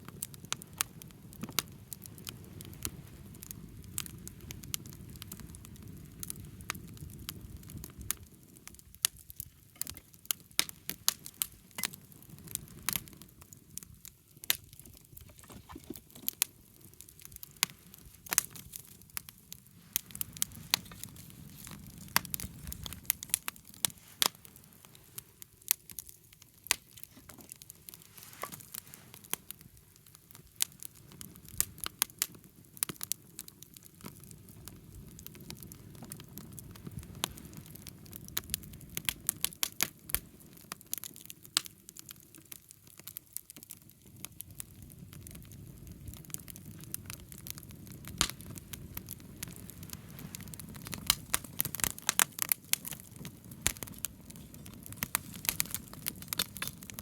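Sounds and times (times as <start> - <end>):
campfire crackling and popping: 0.0 - 57.0
low rumble of fire: 0.0 - 57.0.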